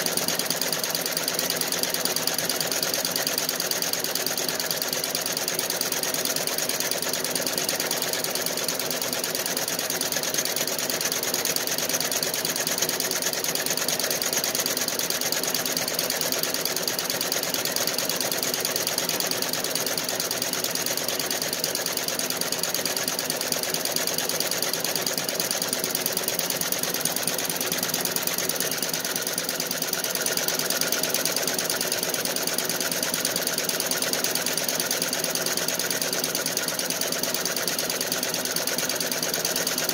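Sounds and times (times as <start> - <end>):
embroidery machine stitching rapidly: 0.0 - 39.9.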